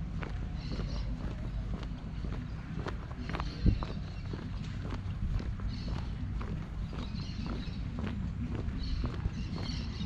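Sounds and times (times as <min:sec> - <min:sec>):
footsteps walking: 0:00.0 - 0:10.0
steady low rumble: 0:00.0 - 0:10.0.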